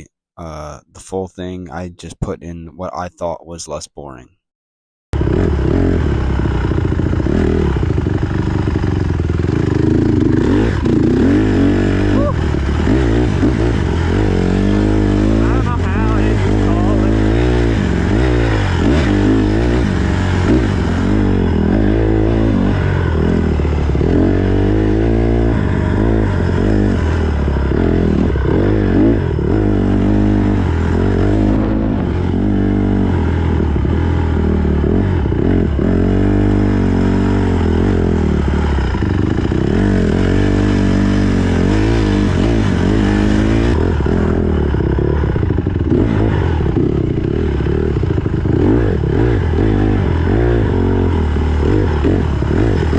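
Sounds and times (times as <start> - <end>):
dirt bike engine revving: 5.2 - 52.9.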